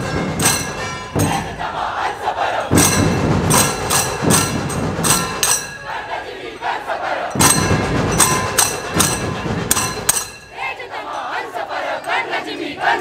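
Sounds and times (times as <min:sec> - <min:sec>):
drums and cymbals striking: 0:00.0 - 0:10.9
crowd shouting: 0:00.0 - 0:13.0.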